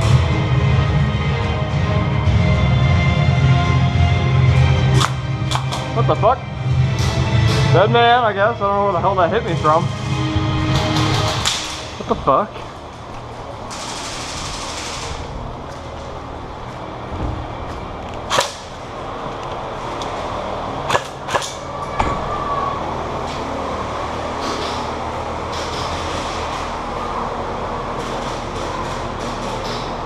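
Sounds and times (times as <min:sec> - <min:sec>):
steady background rush: 0:00.0 - 0:30.0.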